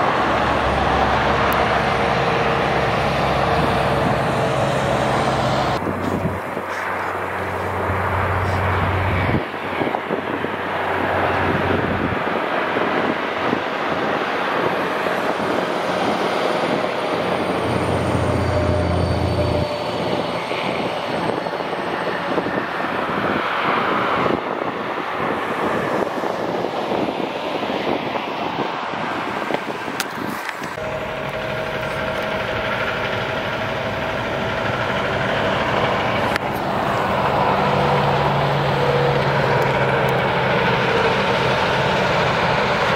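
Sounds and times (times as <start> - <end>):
truck tyre and engine noise: 0.0 - 42.9.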